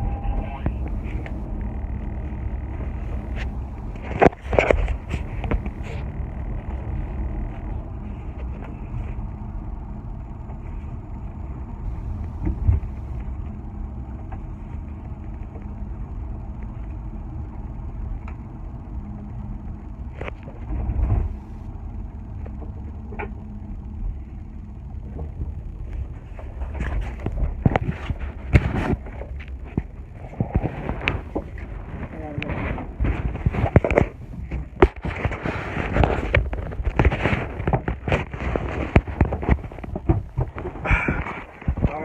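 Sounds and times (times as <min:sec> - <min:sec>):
car driving cabin rumble: 0:00.0 - 0:42.0.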